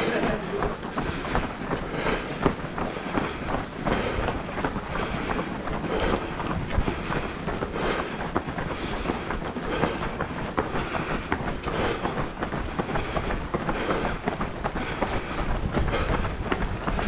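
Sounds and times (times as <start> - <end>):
running footsteps on pavement: 0.0 - 17.0
wind buffeting microphone: 0.0 - 17.0.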